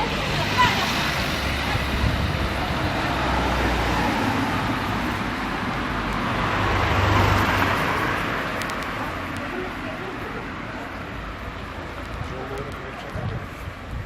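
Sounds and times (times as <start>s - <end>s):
vehicle passing: 0.0s - 13.8s
street traffic noise: 0.0s - 14.0s.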